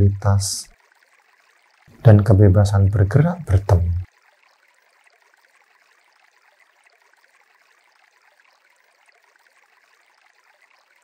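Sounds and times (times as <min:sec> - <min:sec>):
faint trickling stream: 0:00.0 - 0:11.0.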